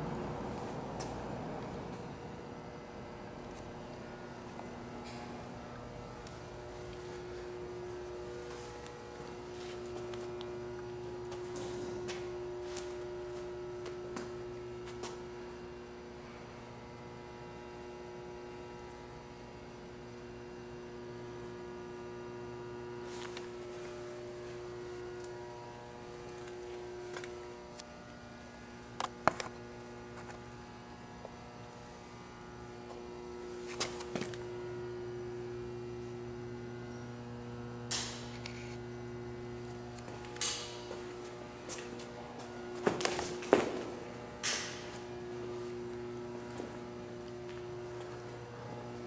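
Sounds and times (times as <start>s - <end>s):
electric roller drive humming: 0.0s - 49.0s.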